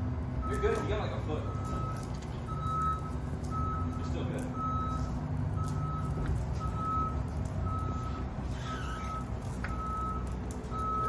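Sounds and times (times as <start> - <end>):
forklift warning beeper: 0.4 - 11.0.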